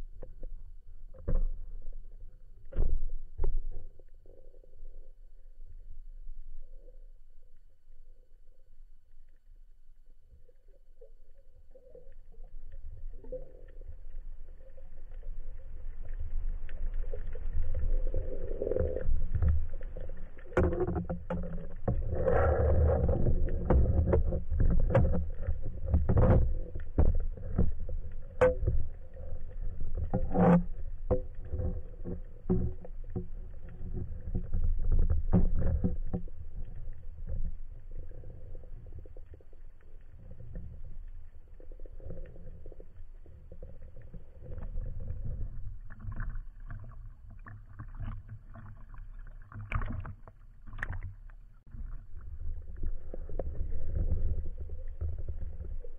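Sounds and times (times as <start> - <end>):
underwater rumble of moving water: 0.0 - 55.9.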